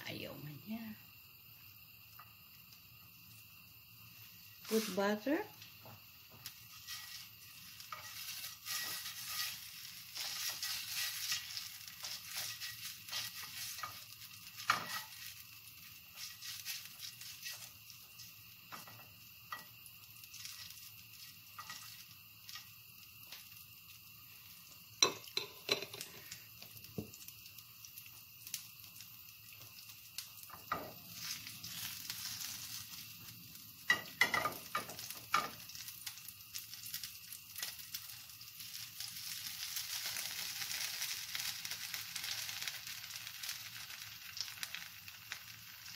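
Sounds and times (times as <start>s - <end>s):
butter sizzling in a frying pan: 0.0s - 45.9s.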